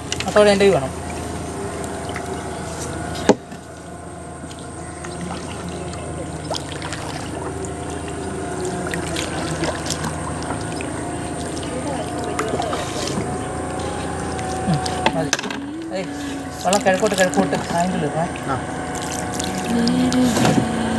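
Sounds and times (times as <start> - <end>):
water lapping against canoe: 0.0 - 20.9.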